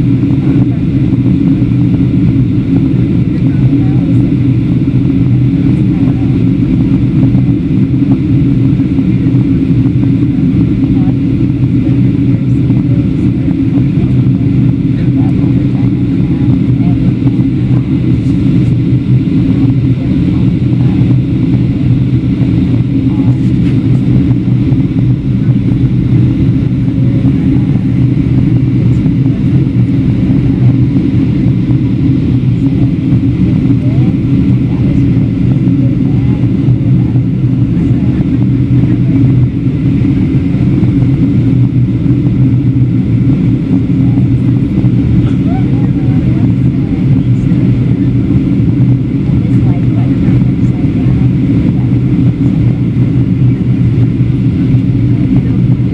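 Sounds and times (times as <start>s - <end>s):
airplane engines running: 0.0s - 55.9s.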